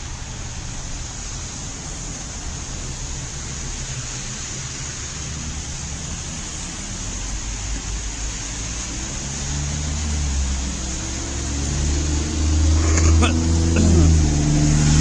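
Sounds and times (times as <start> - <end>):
rain hiss: 0.0 - 15.0
traffic on wet street: 0.0 - 15.0.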